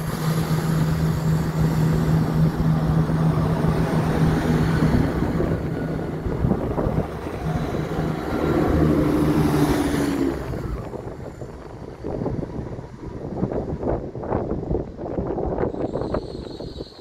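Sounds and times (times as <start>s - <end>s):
diesel engines droning: 0.0s - 14.2s
train wheels rumbling: 0.0s - 17.0s
wind on microphone: 0.0s - 17.0s.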